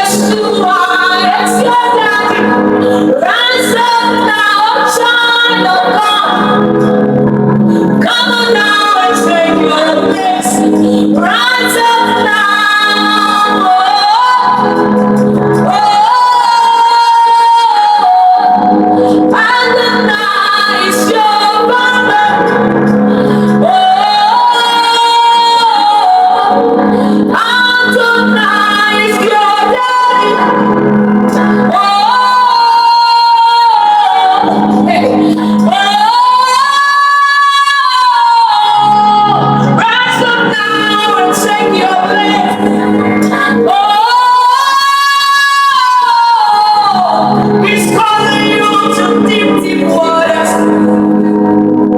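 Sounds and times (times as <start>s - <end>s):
woman singing: 0.0s - 51.5s.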